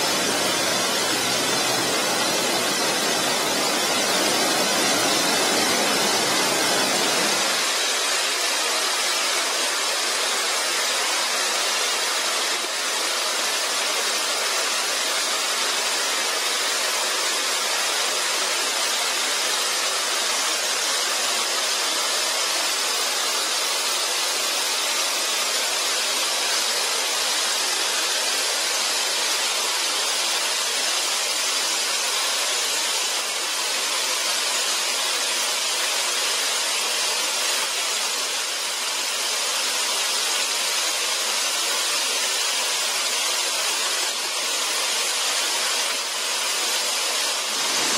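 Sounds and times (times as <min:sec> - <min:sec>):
waterfall pouring onto rock: 0:00.0 - 0:47.9.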